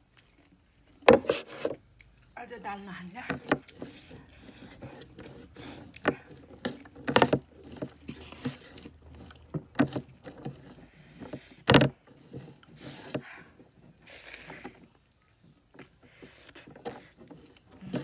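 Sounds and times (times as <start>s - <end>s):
wet squelches of fingers mixing food: 1.6s - 18.0s.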